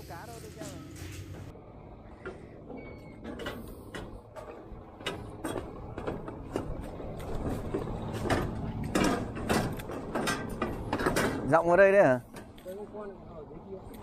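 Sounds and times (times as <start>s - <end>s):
footsteps on metal walkway: 0.6s - 12.9s.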